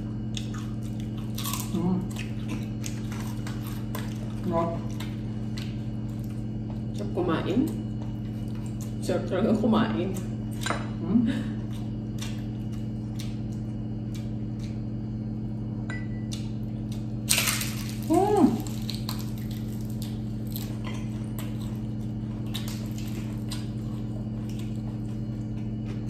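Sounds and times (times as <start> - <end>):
crunchy chewing: 0.0 - 7.0, 7.7 - 9.0, 11.6 - 15.5, 16.2 - 26.0
steady low hum: 0.0 - 26.0.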